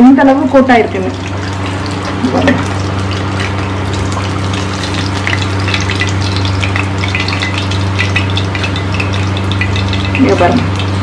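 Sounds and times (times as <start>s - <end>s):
low hum: 0.0s - 11.0s
oil sizzling with frying fish: 0.3s - 11.0s.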